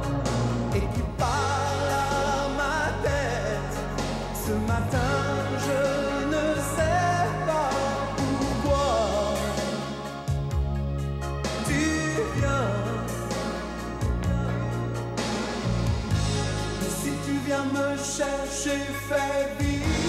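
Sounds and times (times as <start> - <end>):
pop song with singing: 0.0 - 20.0.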